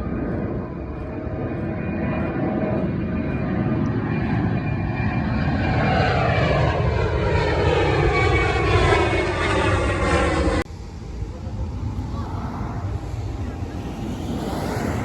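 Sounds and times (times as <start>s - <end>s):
airplane passing overhead: 0.0s - 15.0s.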